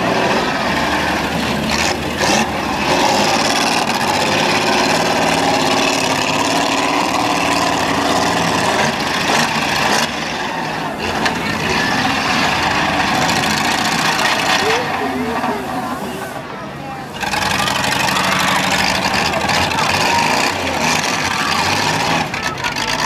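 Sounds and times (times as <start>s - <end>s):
car engines running: 0.0s - 23.0s.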